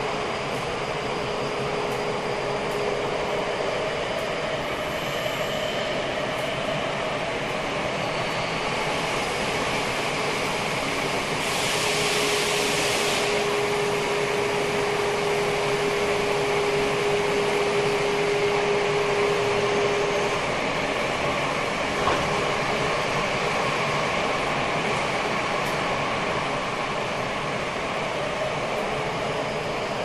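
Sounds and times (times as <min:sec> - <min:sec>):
subway wheels rumbling on rail: 0:00.0 - 0:30.0.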